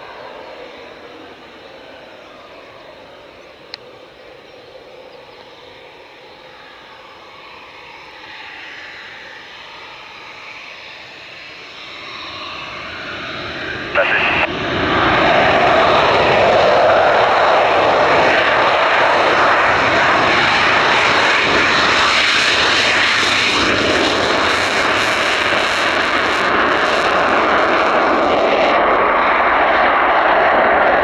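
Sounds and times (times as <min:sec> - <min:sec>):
high jet whine: 0:00.0 - 0:31.0
jet engines roaring: 0:00.0 - 0:31.0.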